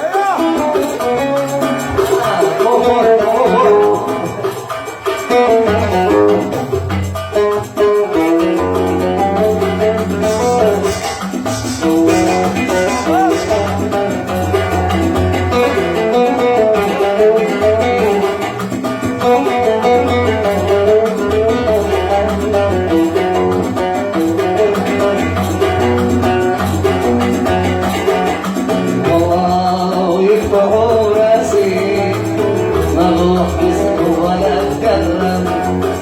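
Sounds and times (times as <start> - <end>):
oud melody: 0.4 - 36.0
low accompaniment: 0.8 - 36.0.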